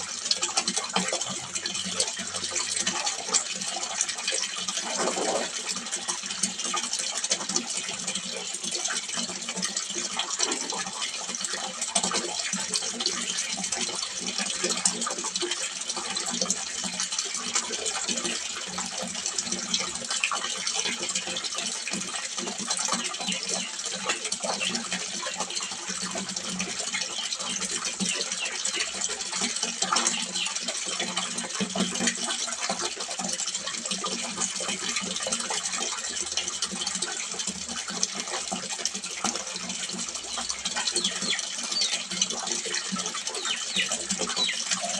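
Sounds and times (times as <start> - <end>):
water splashing into a pond: 0.0 - 44.9.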